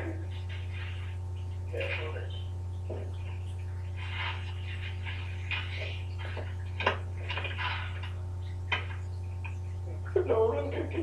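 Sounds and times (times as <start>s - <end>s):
faint television sound: 0.0s - 11.0s
low electrical hum: 0.0s - 11.0s.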